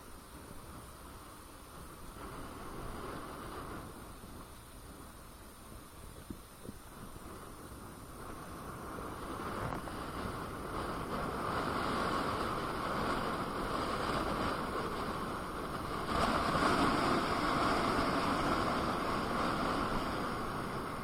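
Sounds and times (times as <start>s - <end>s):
wind rushing: 0.4s - 21.0s.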